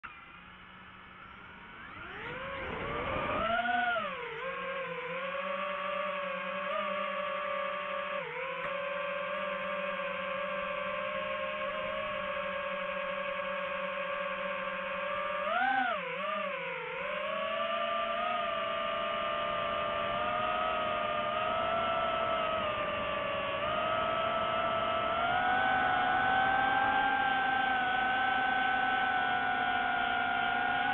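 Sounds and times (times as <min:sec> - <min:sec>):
drone propellers whining: 0:00.0 - 0:30.9.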